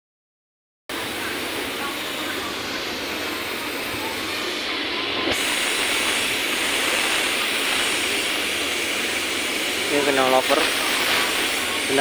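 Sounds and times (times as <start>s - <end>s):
workshop rushing background noise: 0.9s - 12.0s.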